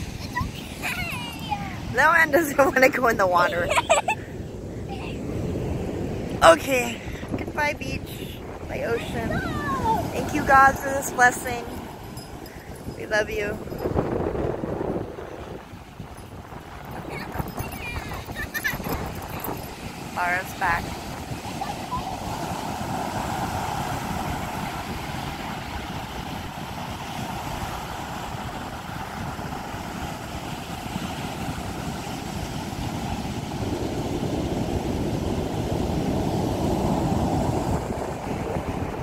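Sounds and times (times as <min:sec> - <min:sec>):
ocean surf breaking: 0:00.0 - 0:39.0
wind on microphone: 0:00.0 - 0:39.0.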